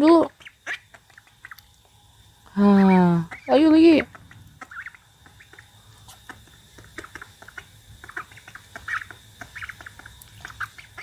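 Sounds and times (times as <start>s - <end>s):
duckling bill dabbling in water: 0.3s - 1.9s, 2.8s - 11.0s.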